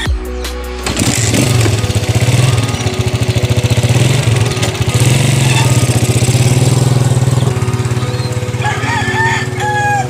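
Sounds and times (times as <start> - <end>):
motorcycle engine idling: 0.8 - 10.0.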